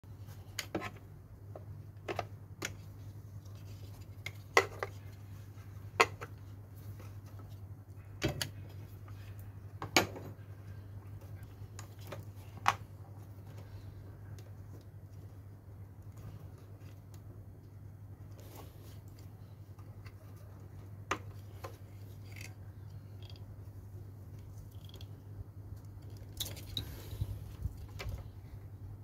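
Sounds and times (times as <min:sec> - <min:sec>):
steady low hum: 0:00.1 - 0:29.0.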